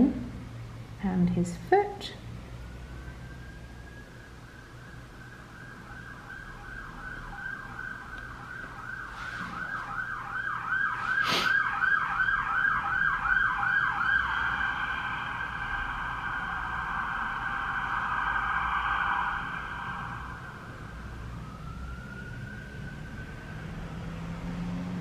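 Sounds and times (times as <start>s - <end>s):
emergency vehicle siren: 2.5s - 25.0s.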